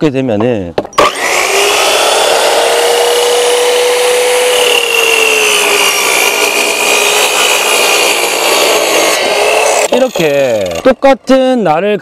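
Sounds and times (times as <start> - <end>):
miter saw cutting wood: 1.0 - 11.5.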